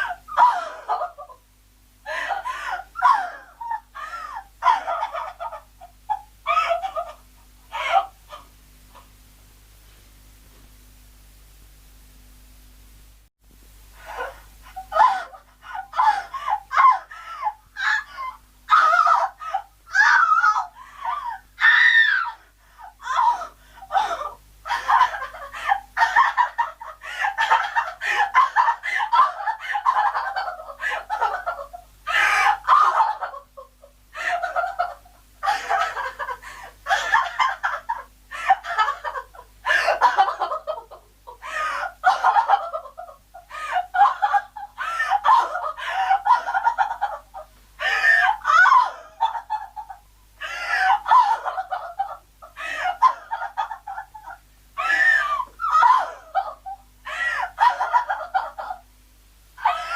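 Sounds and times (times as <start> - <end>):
woman crying hysterically: 0.0 - 1.4, 2.1 - 8.5, 14.0 - 58.9, 59.6 - 59.9.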